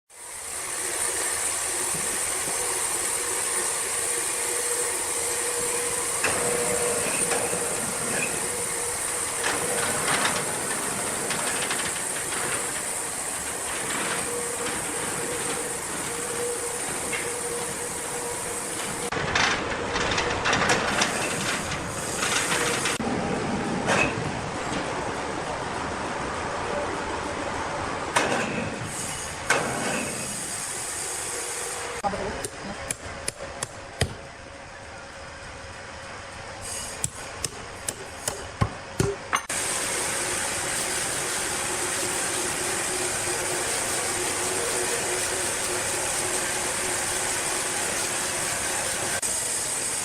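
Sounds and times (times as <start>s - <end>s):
sawmill machinery humming: 0.1s - 28.1s, 28.8s - 50.0s.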